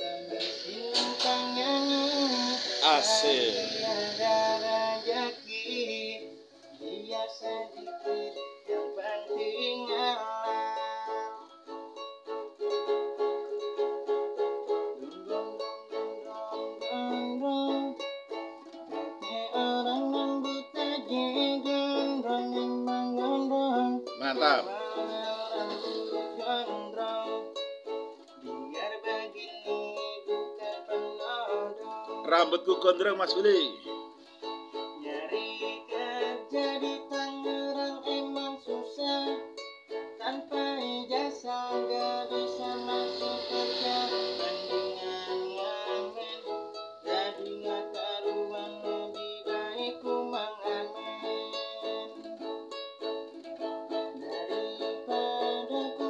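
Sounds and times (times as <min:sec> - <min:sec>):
ukulele strumming and plucking: 0:00.0 - 0:56.0.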